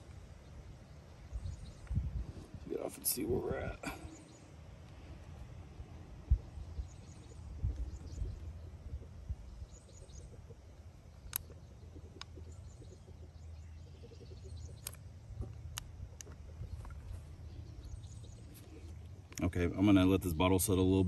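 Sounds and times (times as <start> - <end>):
faint bird chirps: 0.0 - 20.1
low steady rumble: 0.0 - 21.0.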